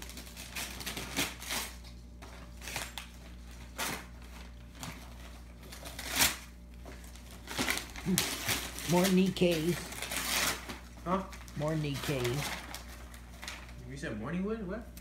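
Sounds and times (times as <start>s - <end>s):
wrapping paper tearing: 0.0s - 13.8s.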